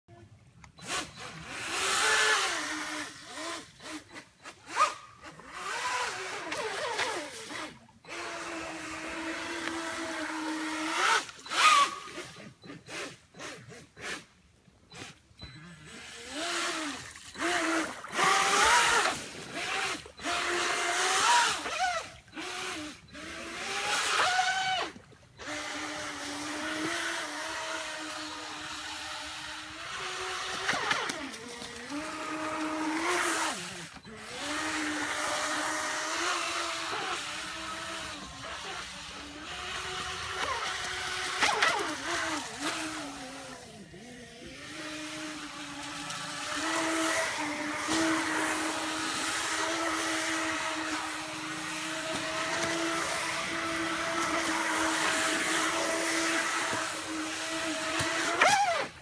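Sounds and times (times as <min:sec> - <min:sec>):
rc boat motor whining: 0:00.1 - 0:59.0.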